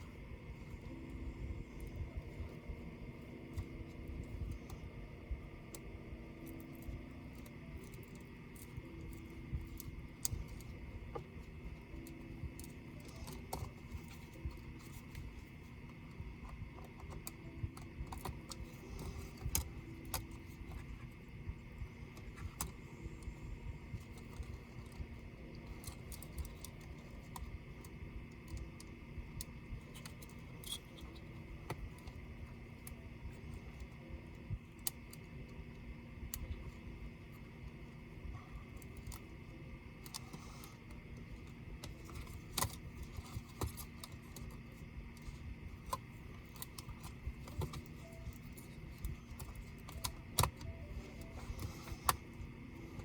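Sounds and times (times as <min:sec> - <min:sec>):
steady low hum: 0:00.0 - 0:53.0
small clicks and taps: 0:05.6 - 0:53.0.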